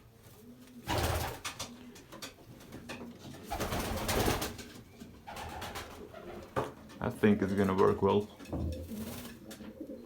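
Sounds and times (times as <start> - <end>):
pigeons cooing: 0.2 - 7.0, 8.7 - 10.0.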